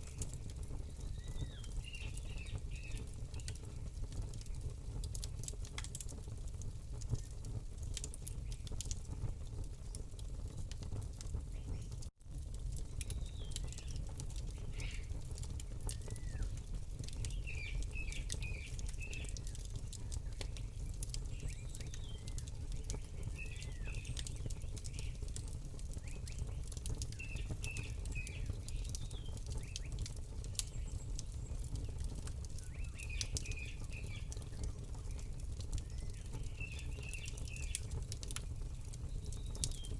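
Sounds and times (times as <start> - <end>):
small birds chirping: 0.0 - 5.2, 8.2 - 8.9, 11.4 - 12.0, 12.8 - 39.9
campfire crackling and popping: 0.0 - 39.9.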